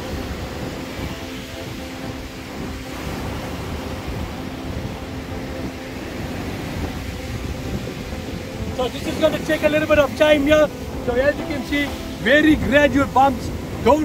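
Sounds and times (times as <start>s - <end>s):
surf breaking against pier: 0.0s - 14.0s
wind buffeting microphone: 0.0s - 14.0s.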